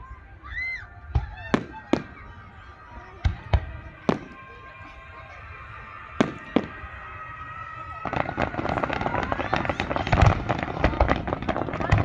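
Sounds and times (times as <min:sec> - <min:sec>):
fireworks crackling: 0:00.0 - 0:12.0
fireworks bangs: 0:00.7 - 0:12.0.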